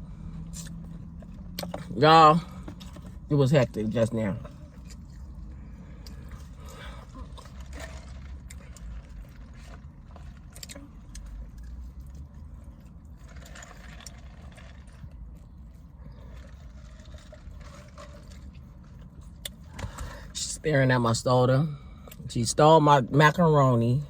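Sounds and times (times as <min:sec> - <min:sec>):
low rumble inside car: 0:00.0 - 0:24.0.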